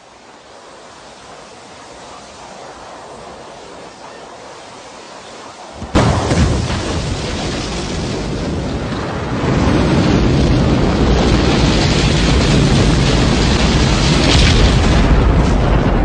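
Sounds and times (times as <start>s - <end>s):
rocket engine roar: 0.0s - 16.0s.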